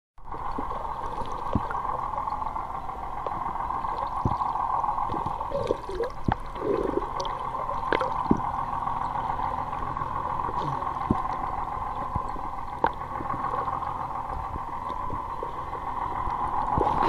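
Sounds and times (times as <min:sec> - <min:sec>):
bubbling gurgles: 0:00.2 - 0:17.0
underwater hum: 0:00.2 - 0:17.0
sharp underwater clicks: 0:00.4 - 0:17.0.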